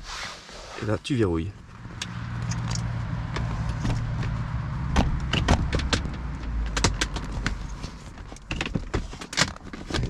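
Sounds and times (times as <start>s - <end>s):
road traffic rumble: 0.5s - 9.8s.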